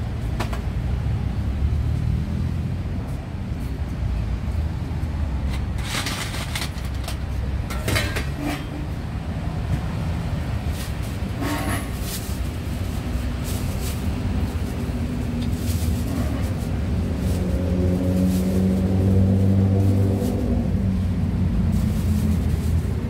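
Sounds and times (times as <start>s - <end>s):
traffic low rumble: 0.0s - 23.0s.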